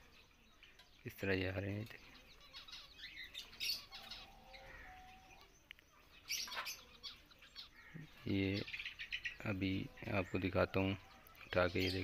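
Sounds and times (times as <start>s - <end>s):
parakeets chirping and squawking: 0.6s - 5.4s, 6.0s - 12.0s.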